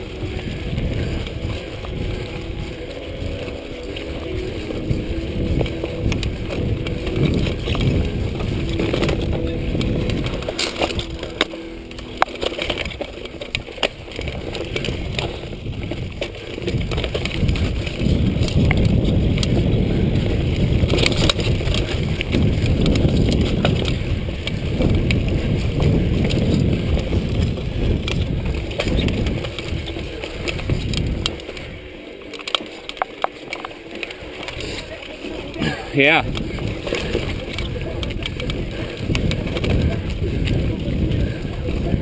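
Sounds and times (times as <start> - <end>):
bike clicks and rattles: 0.0 - 42.0
tyres on dirt: 0.0 - 42.0
wind rumble on microphone: 0.0 - 42.0.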